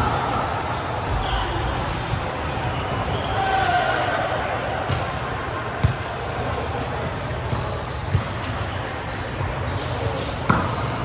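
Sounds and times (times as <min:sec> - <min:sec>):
large hall background noise: 0:00.0 - 0:11.0.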